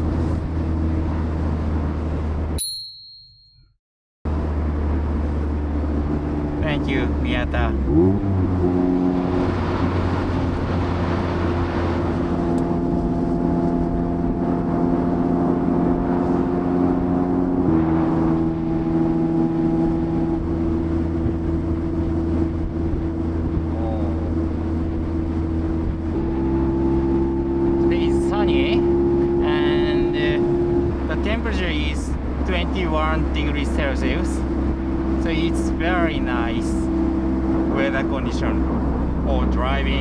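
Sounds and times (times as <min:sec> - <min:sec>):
car engine cruising: 0:00.0 - 0:02.6, 0:04.3 - 0:40.0
road and wind noise: 0:00.0 - 0:02.8, 0:04.3 - 0:40.0.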